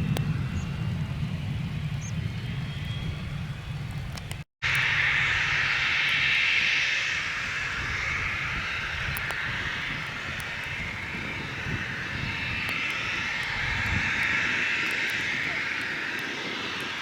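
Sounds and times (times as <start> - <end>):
aircraft engine rushing: 0.0 - 17.0.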